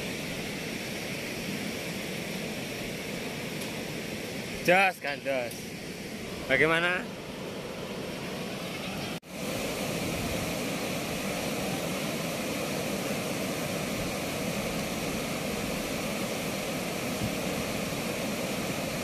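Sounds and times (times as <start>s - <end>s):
river water rushing through weir: 0.0s - 19.0s.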